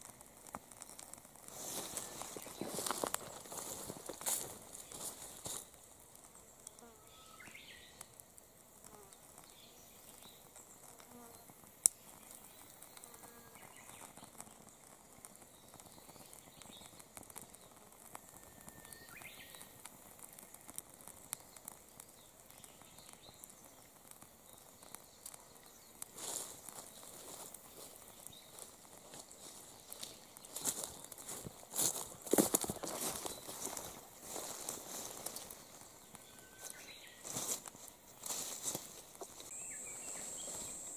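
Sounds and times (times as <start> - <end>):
low hiss: 0.0 - 40.9
small flame crackling: 0.0 - 40.9.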